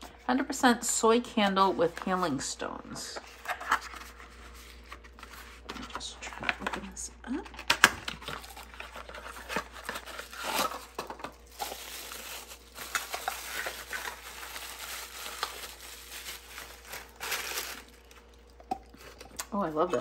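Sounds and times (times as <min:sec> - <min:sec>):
plastic wrap crinkling: 0:03.4 - 0:20.0.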